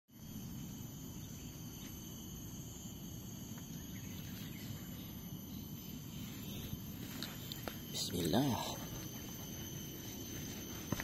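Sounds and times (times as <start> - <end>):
insects droning: 0.1 - 11.0.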